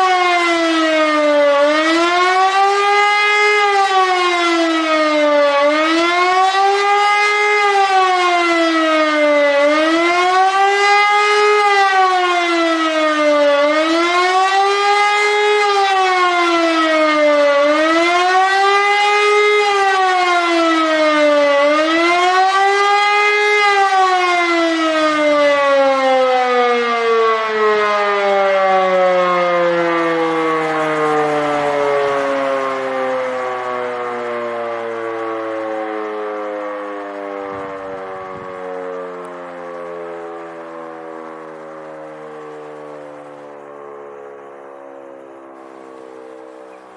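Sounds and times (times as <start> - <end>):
air-raid siren wailing: 0.0 - 46.9.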